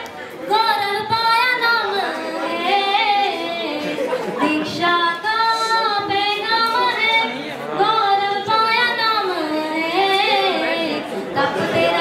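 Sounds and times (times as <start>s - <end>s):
woman singing devotional song: 0.5s - 12.0s.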